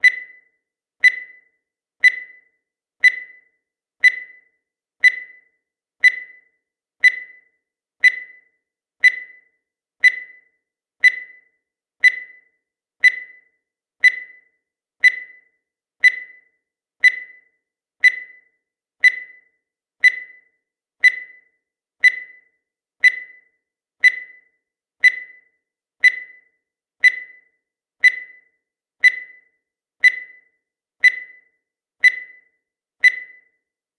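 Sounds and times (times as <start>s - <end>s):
high-pitched timer beeps: 0.0s - 33.7s.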